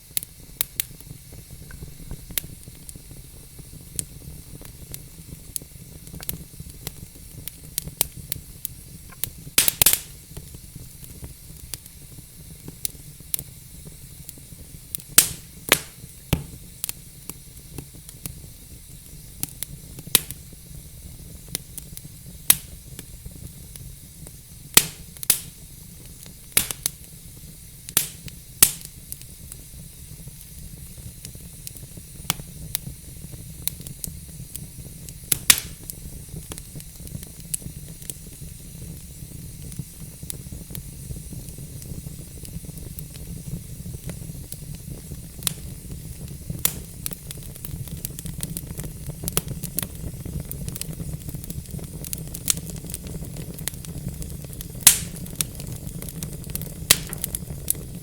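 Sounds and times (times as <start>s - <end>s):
low hiss: 0.0s - 58.0s
wood fire crackling: 0.0s - 58.0s.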